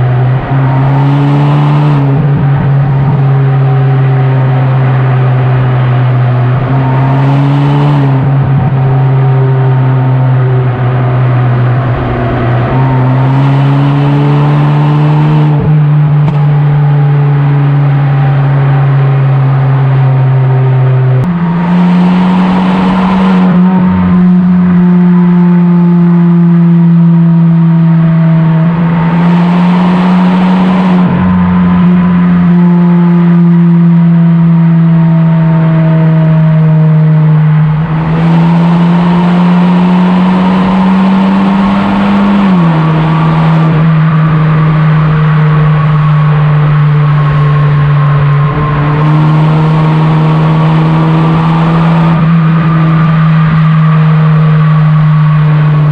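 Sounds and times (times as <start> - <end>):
car exhaust droning: 0.0 - 55.9.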